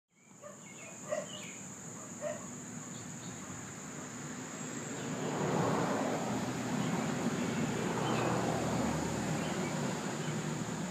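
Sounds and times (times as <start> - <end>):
outdoor background noise: 0.1 - 10.9
high-pitched insect trill: 0.4 - 10.9.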